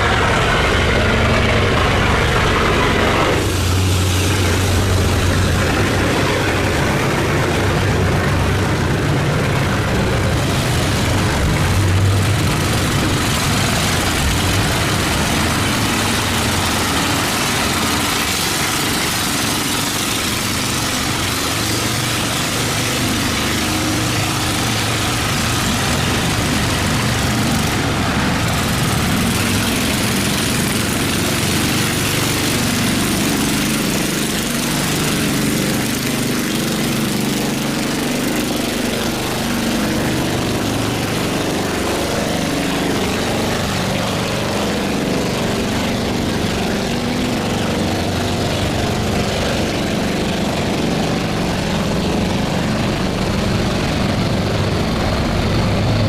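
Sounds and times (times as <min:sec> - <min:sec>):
boat engines droning: 0:00.0 - 0:56.0.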